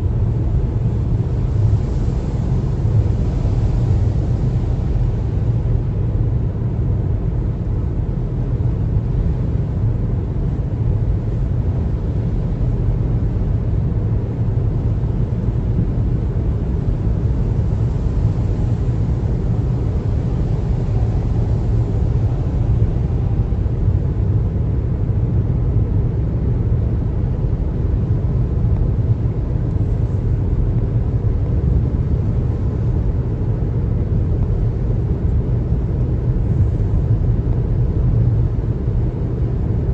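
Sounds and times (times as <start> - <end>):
car road and tyre rumble: 0.0 - 39.9.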